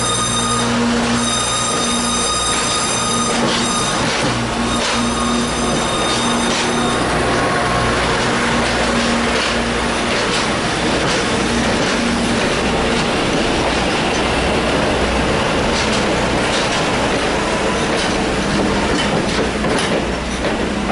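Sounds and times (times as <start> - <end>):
train wheels rumbling on track: 0.0 - 20.9.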